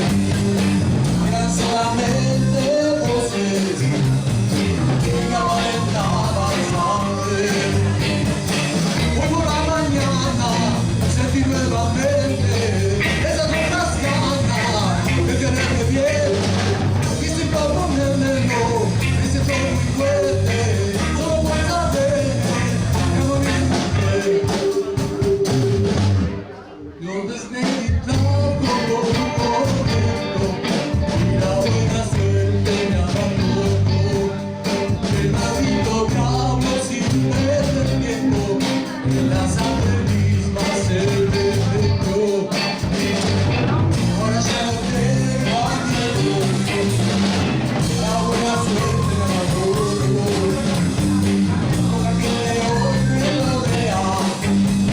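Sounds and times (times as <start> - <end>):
blues band playing: 0.0 - 54.9.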